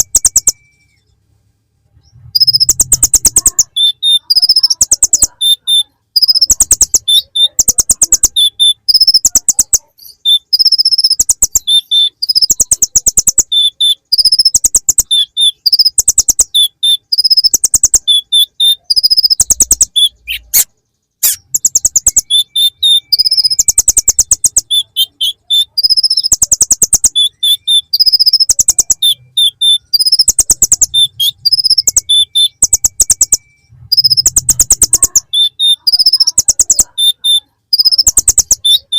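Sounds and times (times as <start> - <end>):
bird trilling song: 0.0 - 1.2, 1.9 - 38.9.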